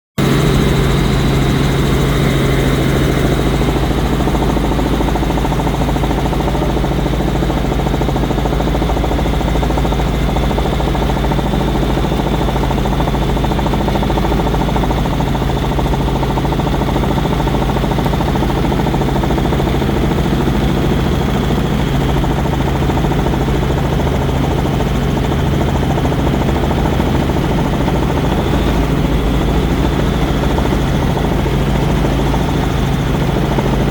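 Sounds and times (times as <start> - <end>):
helicopter drone: 0.2 - 33.9.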